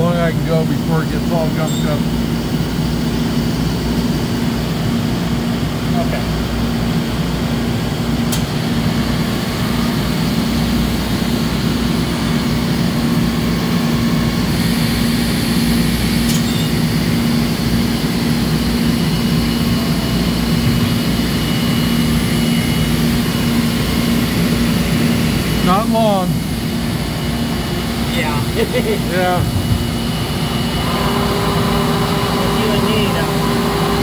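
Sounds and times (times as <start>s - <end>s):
lathe machine hum: 0.0s - 34.0s.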